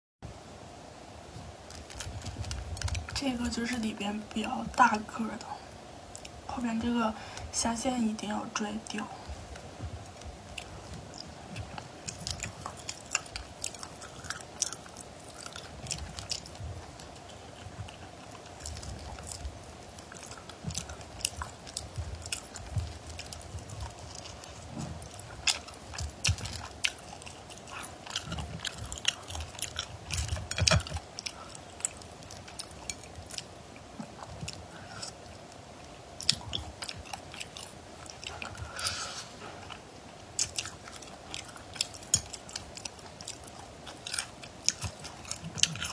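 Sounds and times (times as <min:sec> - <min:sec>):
faint steady hum: 0:00.2 - 0:45.9
wet chewing: 0:01.4 - 0:45.9.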